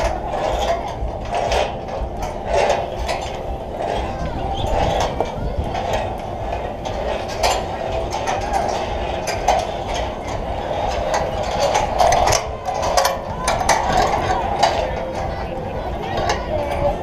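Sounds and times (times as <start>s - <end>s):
metallic clicks and clanks: 0.0s - 17.0s
wind rumbling on microphone: 0.0s - 17.0s.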